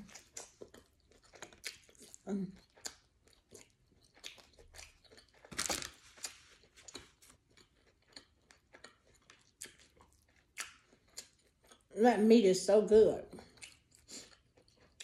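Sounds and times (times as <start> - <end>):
person chewing food: 0.0 - 12.0, 13.3 - 15.0.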